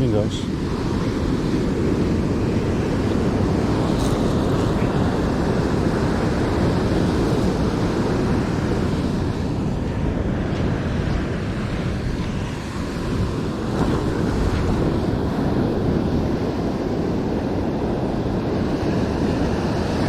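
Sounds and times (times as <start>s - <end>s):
surf breaking on beach: 0.0s - 20.0s
wind rumble on microphone: 0.0s - 20.0s.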